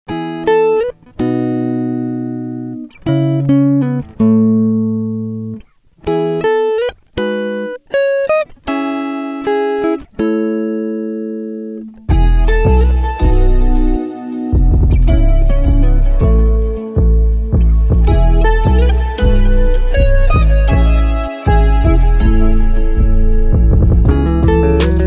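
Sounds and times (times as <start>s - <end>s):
plucked guitar music: 0.1s - 25.0s.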